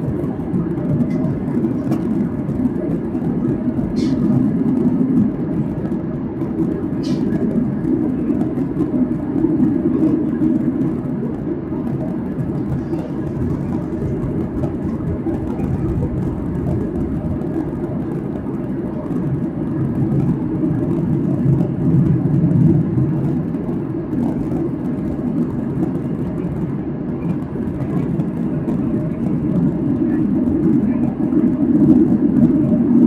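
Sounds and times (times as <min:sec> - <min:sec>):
airplane cabin drone: 0:00.0 - 0:33.0.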